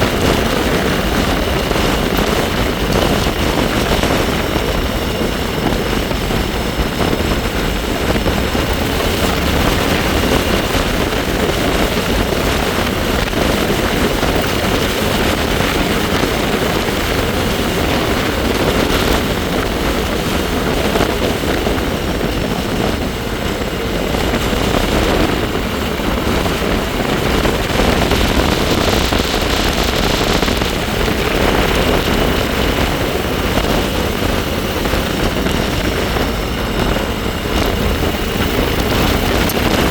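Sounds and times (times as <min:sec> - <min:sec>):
high-pitched bike whine: 0:00.0 - 0:39.9
wind buffeting microphone: 0:00.0 - 0:39.9.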